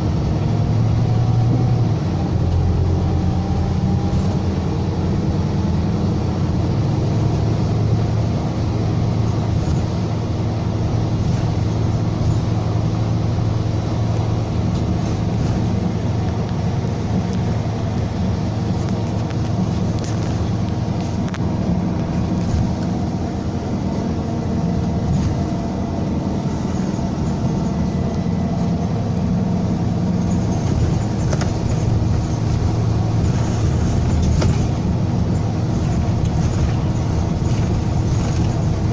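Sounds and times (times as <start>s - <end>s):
diesel coach engine running: 0.0s - 38.9s.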